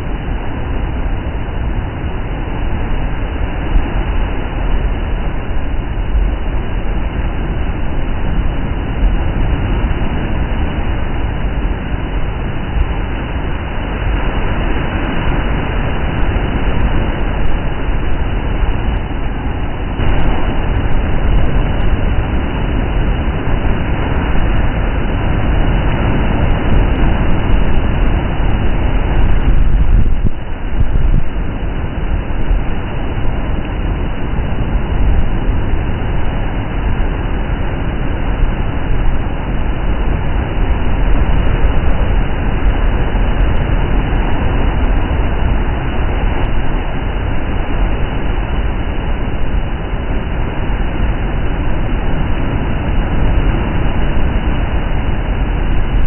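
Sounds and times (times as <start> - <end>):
sea surf breaking against rocks: 0.0 - 56.0.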